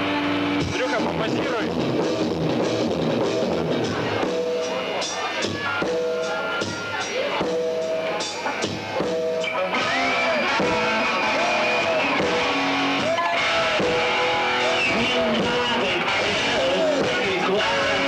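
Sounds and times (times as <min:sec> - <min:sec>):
drums: 0:00.0 - 0:18.0
electric guitar bending notes: 0:00.0 - 0:18.0.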